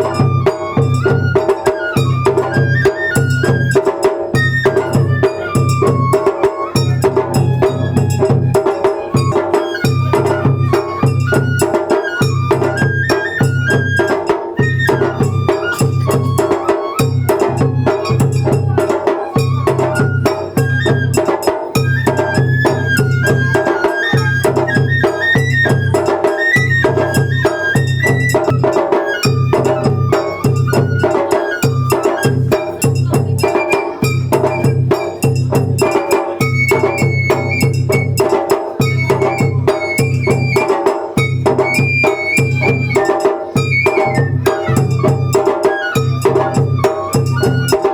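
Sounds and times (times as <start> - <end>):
bamboo flute melody: 0.0 - 47.9
fast steady drumming: 0.0 - 47.9.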